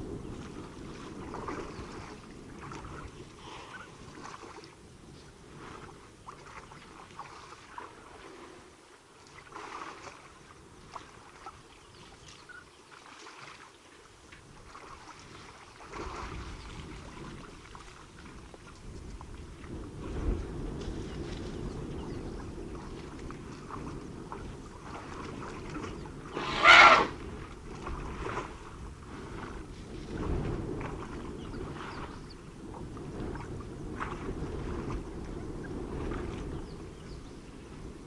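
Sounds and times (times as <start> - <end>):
elephants splashing and slurping water: 0.0 - 37.3.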